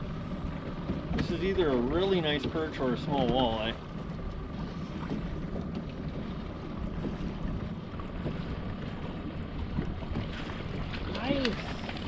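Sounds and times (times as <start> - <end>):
water lapping against boat hull: 0.0 - 12.0
wind buffeting microphone: 0.0 - 12.0.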